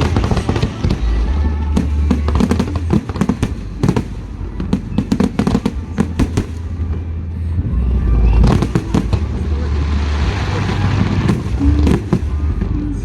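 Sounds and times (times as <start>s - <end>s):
fireworks crackling and banging: 0.0s - 13.0s
low rumble: 0.0s - 13.0s.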